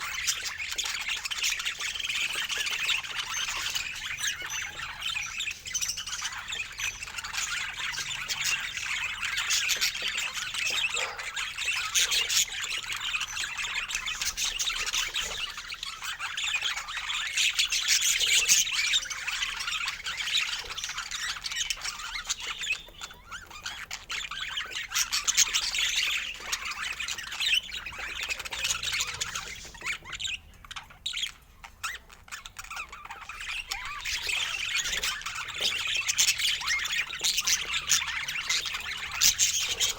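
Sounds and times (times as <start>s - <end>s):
flock of birds squawking and chirping: 0.0s - 39.9s.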